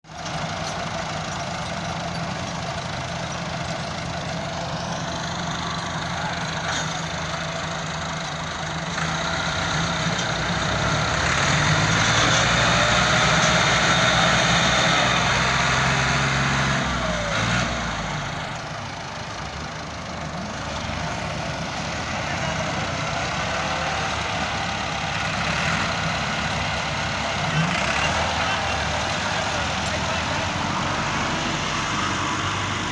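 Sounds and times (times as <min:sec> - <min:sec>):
tractor engines running: 0:00.0 - 0:32.9.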